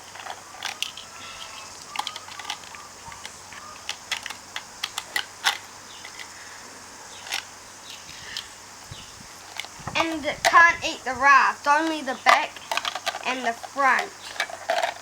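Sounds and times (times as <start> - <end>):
plastic toy parts clattering: 0.0 - 6.4, 7.2 - 8.5, 9.4 - 10.8, 11.6 - 15.0.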